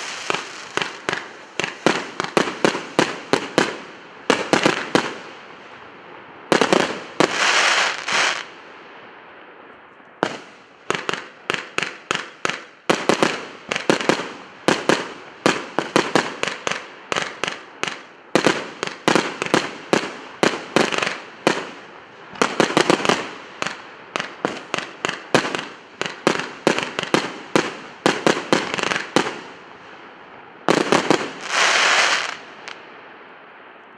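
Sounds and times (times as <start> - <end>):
firework crackle: 0.0 - 5.9, 6.5 - 8.8, 10.2 - 32.9.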